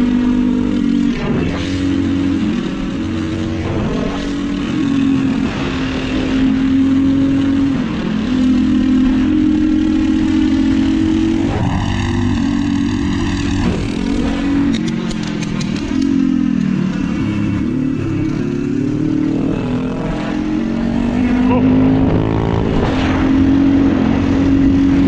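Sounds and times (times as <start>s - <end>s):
small engine running at high revs: 0.0s - 25.0s.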